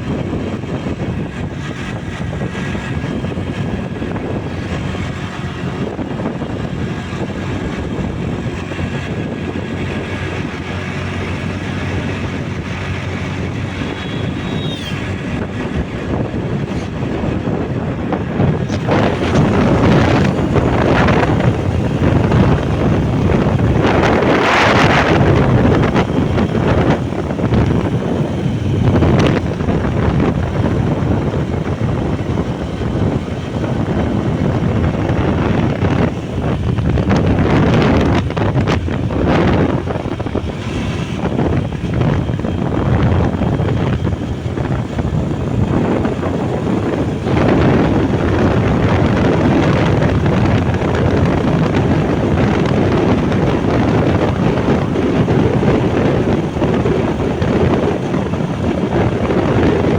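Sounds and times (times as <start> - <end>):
motorbike engine: 0.0 - 59.9
road noise: 0.0 - 59.9
wind rushing over microphone: 0.0 - 59.9.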